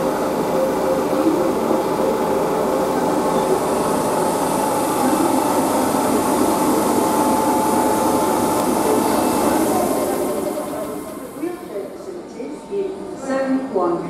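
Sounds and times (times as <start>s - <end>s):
thin steady whine: 0.0s - 13.8s
train running noise: 0.0s - 14.0s.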